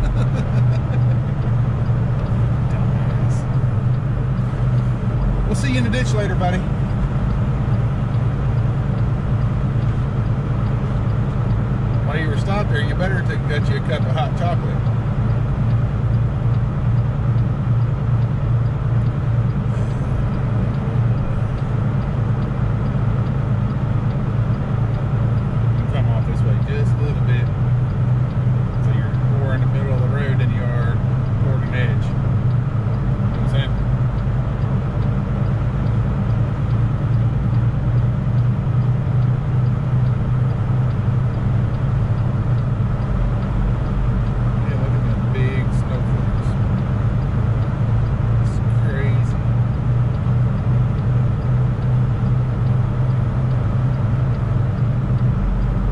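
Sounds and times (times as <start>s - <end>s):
diesel engine droning: 0.0s - 55.9s
faint regular ticking: 0.0s - 55.9s
road noise: 0.0s - 55.9s.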